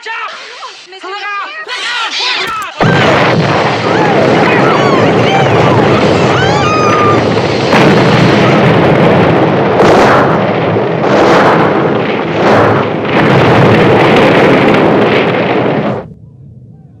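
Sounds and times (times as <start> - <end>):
fire rumble: 2.4 - 17.0
explosion blasts: 2.5 - 17.0.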